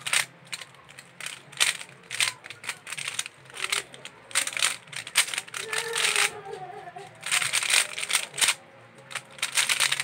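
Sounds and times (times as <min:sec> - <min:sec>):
puzzle cube layers clicking: 0:00.0 - 0:06.4, 0:07.2 - 0:10.0.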